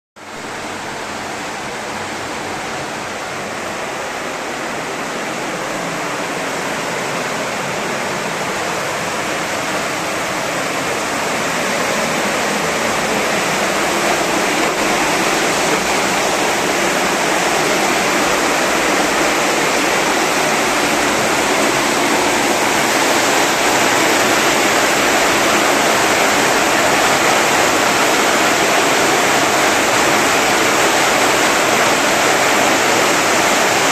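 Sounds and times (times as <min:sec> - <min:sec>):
water rushing: 0:00.2 - 0:33.9.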